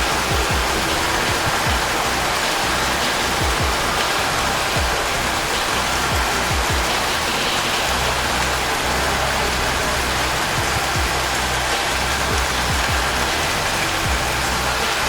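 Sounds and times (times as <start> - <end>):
soft background music: 0.0 - 15.0
steady rain hissing: 0.0 - 15.0.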